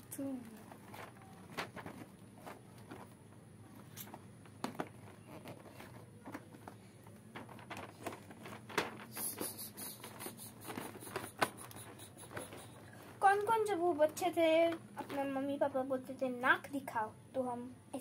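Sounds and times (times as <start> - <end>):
rustles of hands handling box: 0.4 - 15.4.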